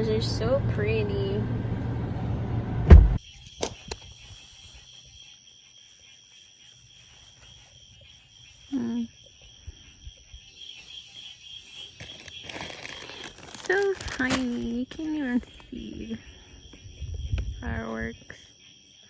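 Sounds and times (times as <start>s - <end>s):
insects chirring: 3.2s - 19.0s.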